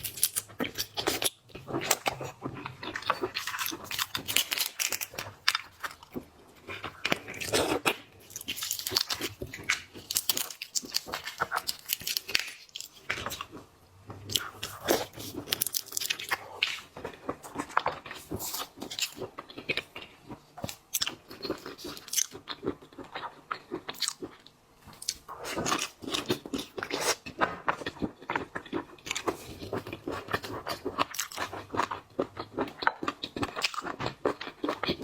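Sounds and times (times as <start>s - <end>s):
person chewing crunchy seafood: 0.0s - 35.0s.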